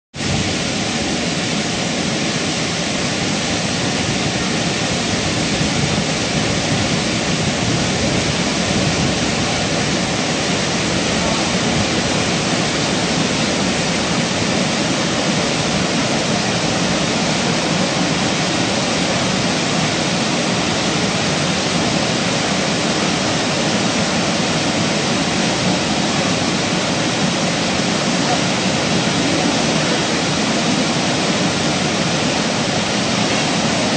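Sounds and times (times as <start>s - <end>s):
waterfall rushing into pool: 0.1s - 33.9s.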